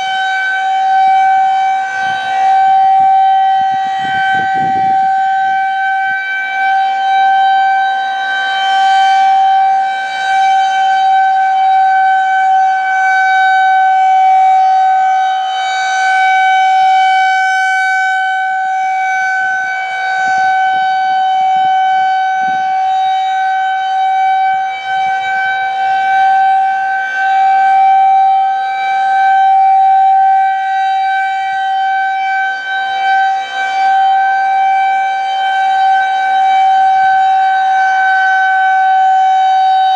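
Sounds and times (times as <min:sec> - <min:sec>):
rotating warning siren: 0:00.0 - 0:39.9.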